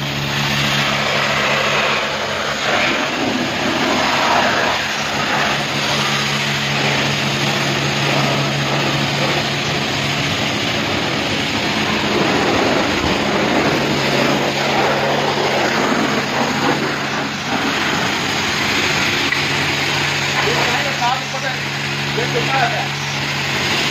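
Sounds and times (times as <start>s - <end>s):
pressure washer spraying: 0.0s - 23.9s
steady low hum: 0.0s - 23.9s.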